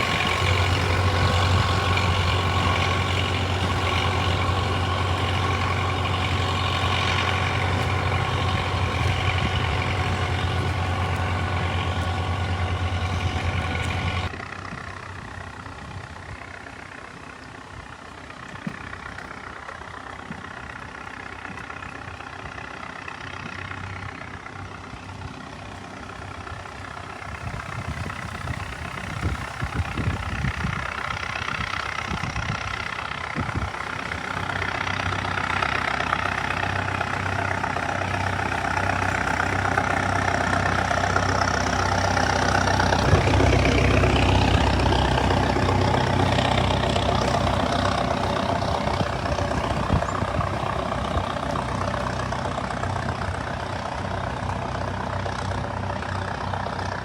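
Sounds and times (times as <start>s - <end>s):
heavy engine running: 0.0s - 57.0s.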